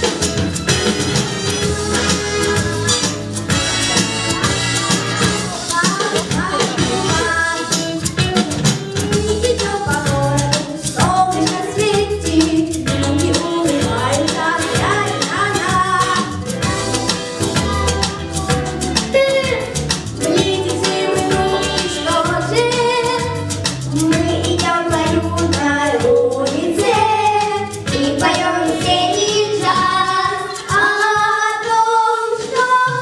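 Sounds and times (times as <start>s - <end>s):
person singing over upbeat backing: 4.4s - 8.1s, 9.0s - 16.5s, 17.2s - 33.0s.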